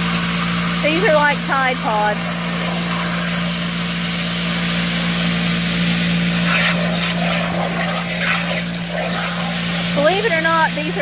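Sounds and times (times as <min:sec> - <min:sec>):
hose spraying water into tub: 0:00.0 - 0:11.0
low hum: 0:00.0 - 0:11.0.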